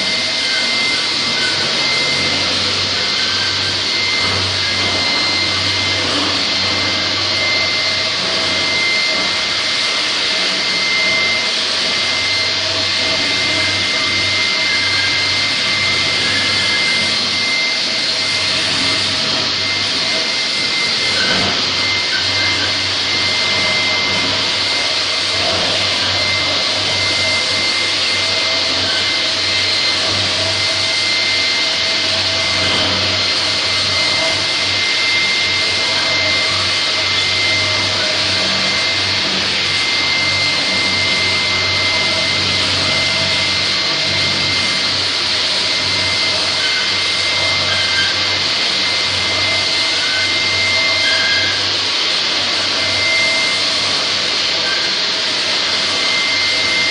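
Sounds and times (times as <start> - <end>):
floor grinder grinding concrete: 0.0 - 56.9
steady high whine: 0.0 - 56.9
vacuum hissing: 0.0 - 56.9.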